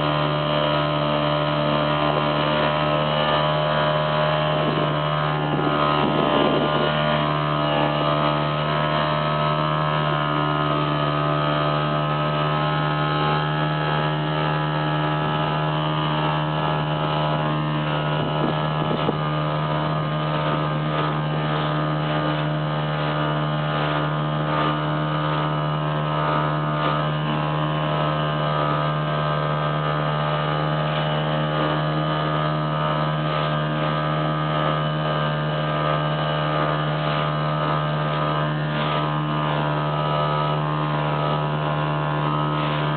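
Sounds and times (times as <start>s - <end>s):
boat motor humming: 0.0s - 42.9s.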